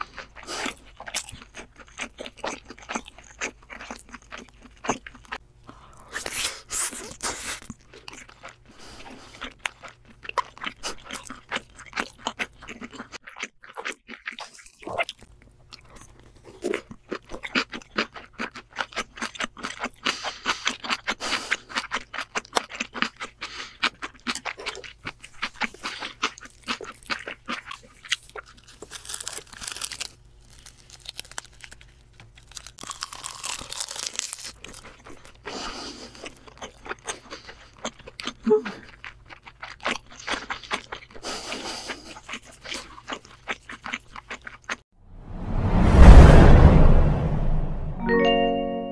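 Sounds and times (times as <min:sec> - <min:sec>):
chewing crunchy food: 0:00.0 - 0:44.8.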